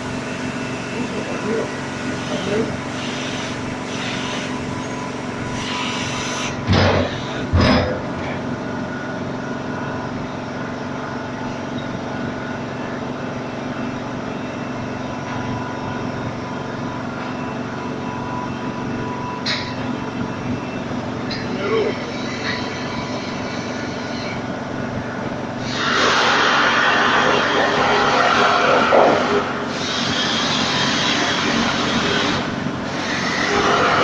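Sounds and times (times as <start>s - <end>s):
air compressor humming: 0.0s - 34.0s.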